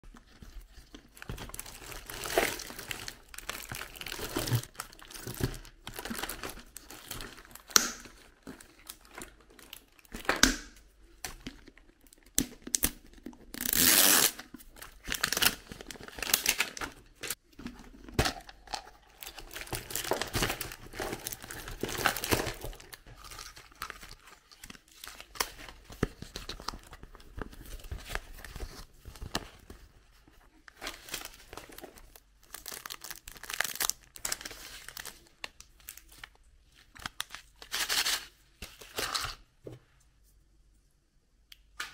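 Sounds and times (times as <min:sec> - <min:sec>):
plastic wrappers crinkling and tearing: 0:00.1 - 0:10.4, 0:11.1 - 0:29.8, 0:30.6 - 0:39.4.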